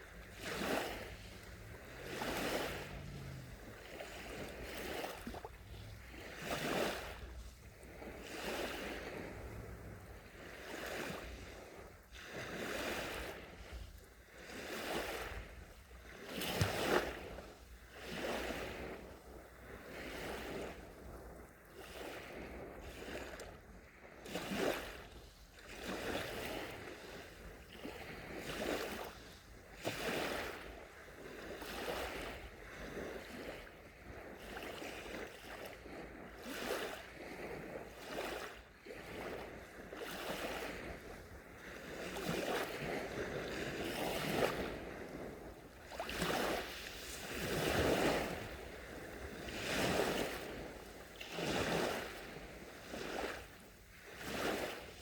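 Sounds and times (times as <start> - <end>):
sea waves washing onto beach: 0.0 - 24.0, 24.8 - 55.0.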